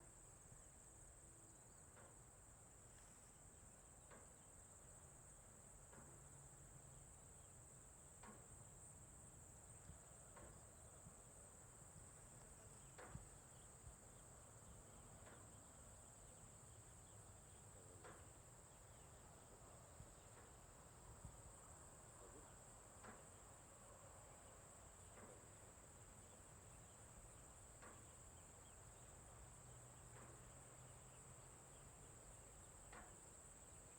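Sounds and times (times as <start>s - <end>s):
faint ticks: 1.5s - 33.9s
insects chorus: 6.4s - 33.9s.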